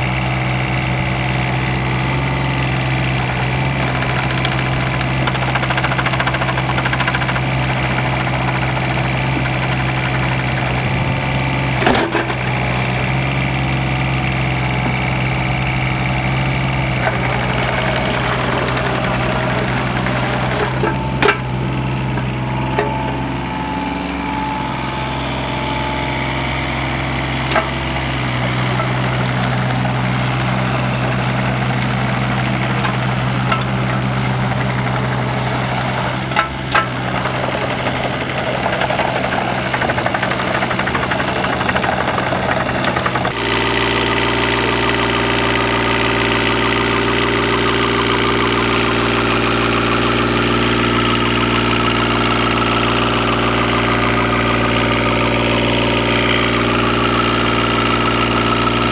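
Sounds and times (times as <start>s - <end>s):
diesel excavator engine running: 0.0s - 58.9s.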